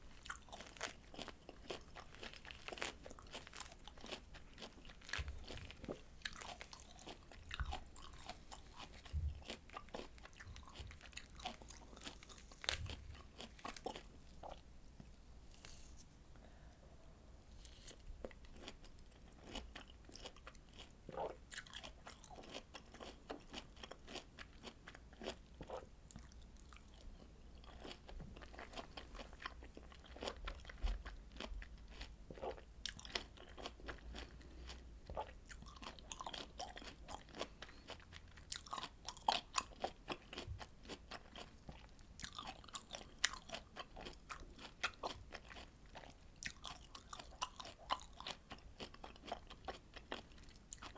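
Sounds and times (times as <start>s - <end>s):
person chewing citrus fruit: 0.1s - 16.2s, 17.4s - 50.9s.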